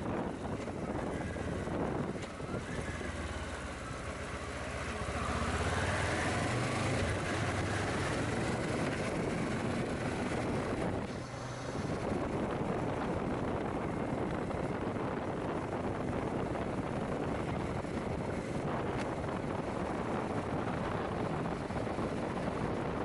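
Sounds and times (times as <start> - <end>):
wind noise on microphone: 0.0 - 4.0, 5.5 - 23.0
motorcycle engine: 0.0 - 23.0.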